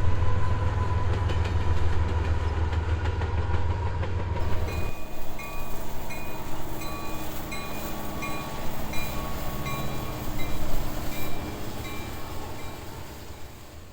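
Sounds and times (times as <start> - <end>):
train wheels rumbling on rail: 0.0 - 13.9.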